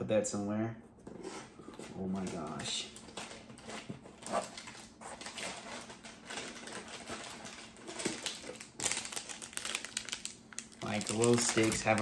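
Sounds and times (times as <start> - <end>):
plastic packaging crinkling: 2.1 - 12.0.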